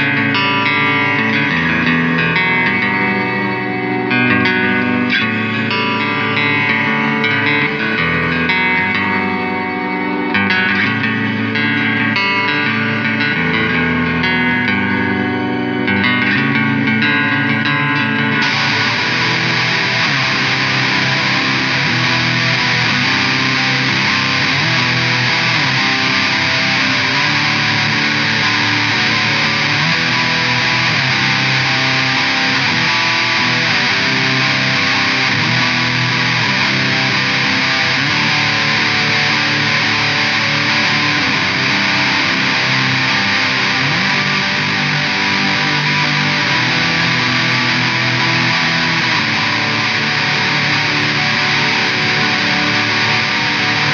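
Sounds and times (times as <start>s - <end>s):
electric guitar strumming chords: 0.0s - 53.9s.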